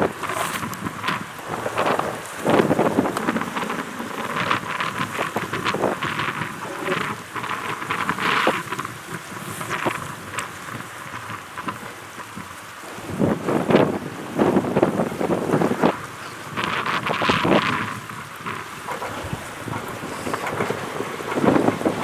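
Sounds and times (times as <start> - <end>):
rain: 0.0 - 22.0
wind gusting on microphone: 0.0 - 22.0.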